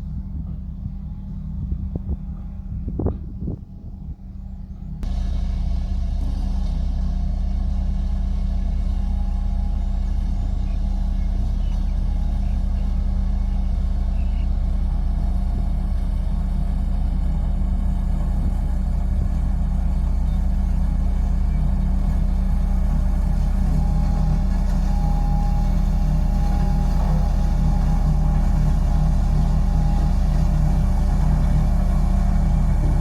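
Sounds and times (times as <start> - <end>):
heavy diesel engine running: 0.0 - 33.0
quiet rumble: 0.0 - 33.0.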